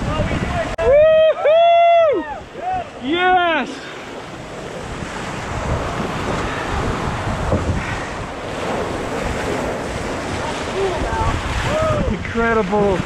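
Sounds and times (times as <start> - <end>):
water rushing past a canoe hull: 0.0 - 13.0
wind buffeting the microphone: 0.0 - 13.0.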